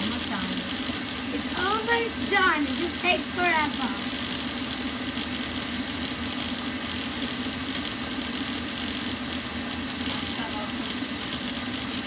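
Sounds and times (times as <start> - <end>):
electric mixer whipping batter: 0.0 - 12.0.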